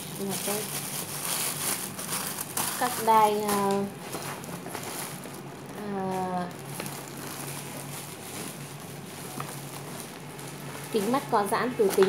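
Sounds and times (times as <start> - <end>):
packaged products handled on shelf: 0.0 - 12.0.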